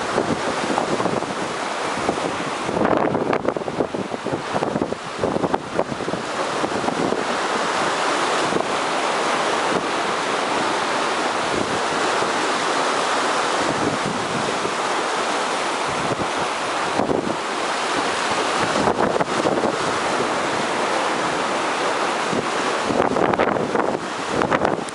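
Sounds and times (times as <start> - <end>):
surf waves breaking: 0.0 - 24.9
wind buffeting microphone: 0.0 - 24.9.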